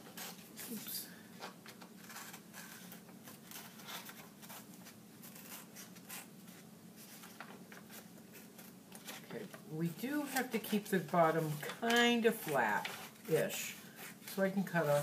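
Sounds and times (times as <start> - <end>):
low steady hum: 0.0 - 15.0
paper rustling: 1.4 - 15.0.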